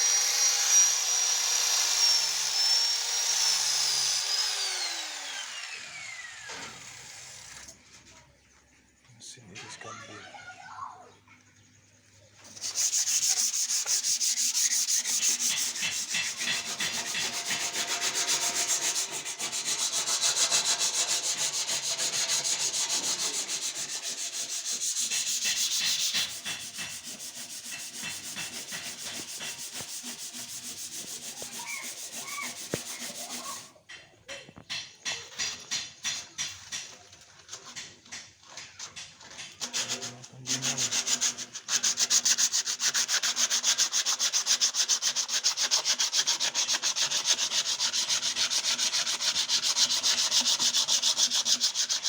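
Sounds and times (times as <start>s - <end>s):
power tool grinding: 0.0s - 8.0s, 12.4s - 33.8s, 35.2s - 52.0s.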